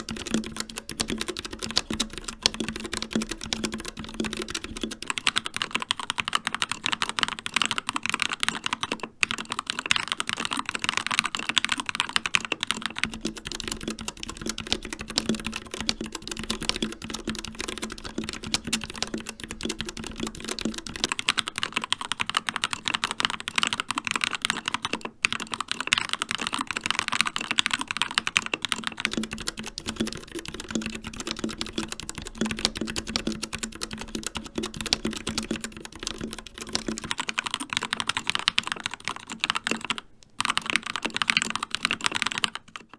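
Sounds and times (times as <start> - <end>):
fast typing on mechanical keyboard: 0.0 - 42.9.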